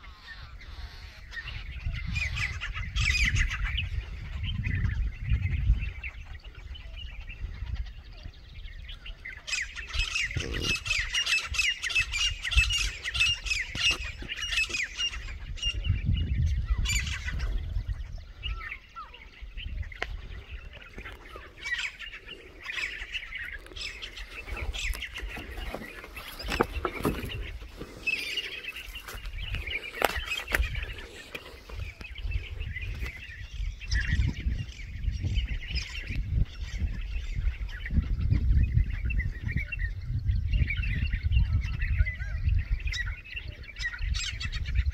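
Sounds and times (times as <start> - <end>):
harsh francolin calls: 0.0 - 39.9
small birds chirping: 0.0 - 44.9
wind rumbling on microphone: 0.0 - 44.9.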